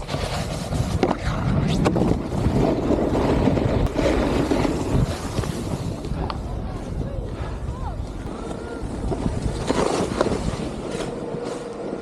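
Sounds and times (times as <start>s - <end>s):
snowboard scraping over snow: 0.0s - 12.0s.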